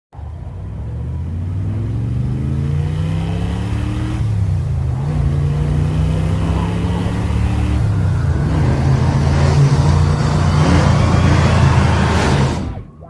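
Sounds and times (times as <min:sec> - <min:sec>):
car engine accelerating: 0:00.2 - 0:13.0.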